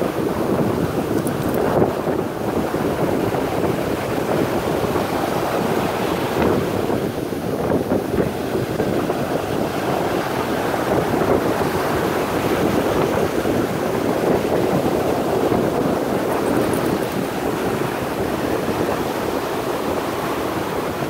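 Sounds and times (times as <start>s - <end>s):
ocean surf rushing: 0.0s - 21.0s
wind buffeting microphone: 0.0s - 21.0s.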